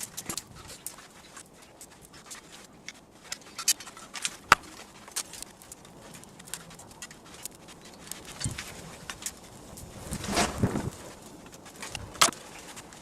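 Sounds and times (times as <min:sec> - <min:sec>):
sharp crack: 0:01.8 - 0:12.8.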